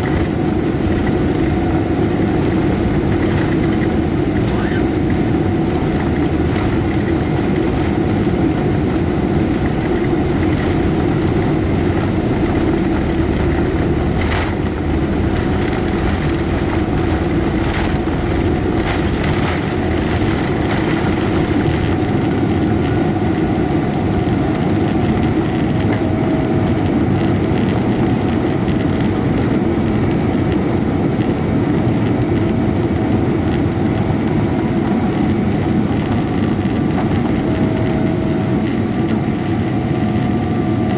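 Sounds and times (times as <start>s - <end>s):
faint engine whine: 0.0s - 40.9s
jet engine cabin rumble: 0.0s - 40.9s.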